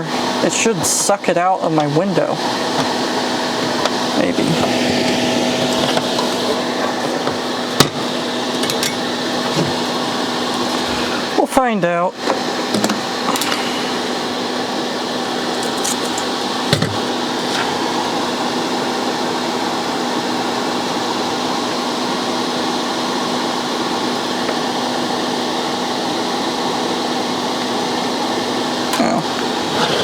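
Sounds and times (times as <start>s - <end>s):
heater hum: 0.0s - 30.0s
space heater fan whooshing: 0.0s - 30.0s.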